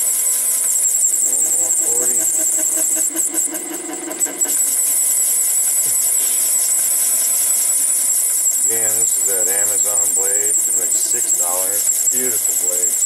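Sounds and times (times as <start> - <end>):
lathe whining: 0.0 - 13.0.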